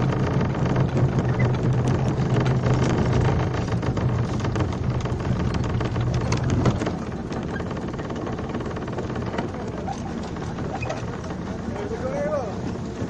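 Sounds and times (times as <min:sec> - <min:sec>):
speedboat engine drone: 0:00.0 - 0:13.0
wind: 0:00.0 - 0:13.0.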